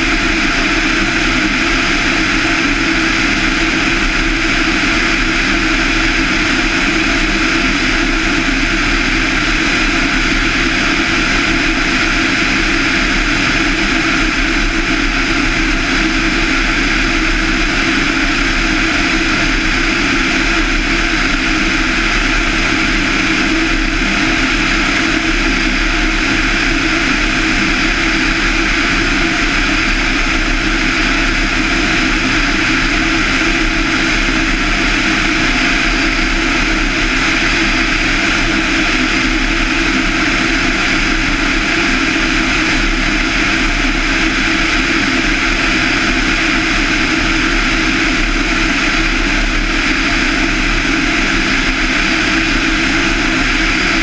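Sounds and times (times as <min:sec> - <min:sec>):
propeller aircraft engine droning: 0:00.0 - 0:54.0.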